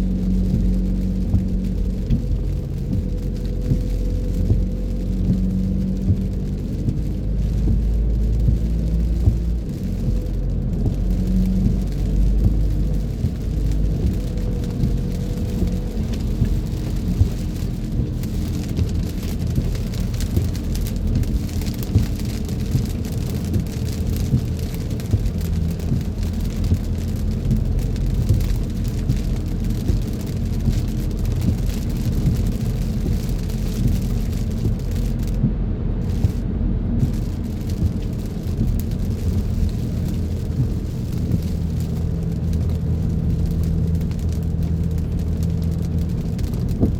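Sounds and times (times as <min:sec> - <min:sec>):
rain hitting a moving car: 0:00.0 - 0:46.9
road and engine rumble: 0:00.0 - 0:46.9
ticks of raindrops: 0:00.0 - 0:46.9.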